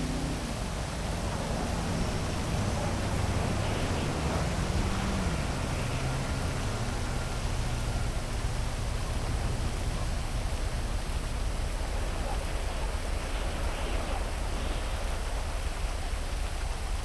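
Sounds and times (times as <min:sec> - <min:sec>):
heavy rain hissing: 0:00.0 - 0:16.5
low constant rumble: 0:00.0 - 0:16.6.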